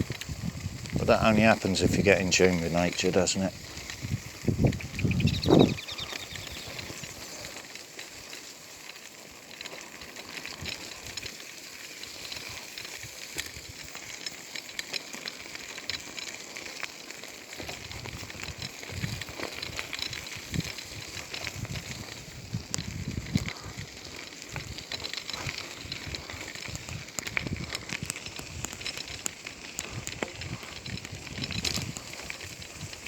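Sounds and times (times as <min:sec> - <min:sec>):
small clicks and crackles: 0:00.0 - 0:33.0.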